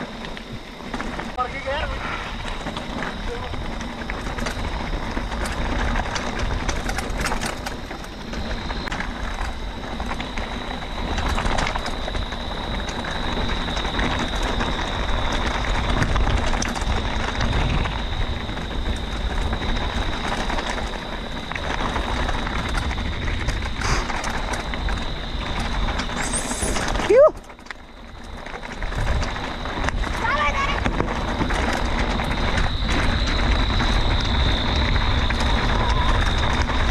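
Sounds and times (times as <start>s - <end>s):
wind on microphone: 0.0s - 27.5s, 28.2s - 36.9s
bike rattling on dirt trail: 0.0s - 36.9s.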